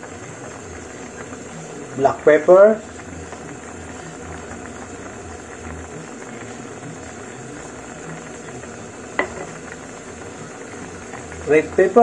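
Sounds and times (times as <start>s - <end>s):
broth boiling in a wok: 0.0s - 12.0s.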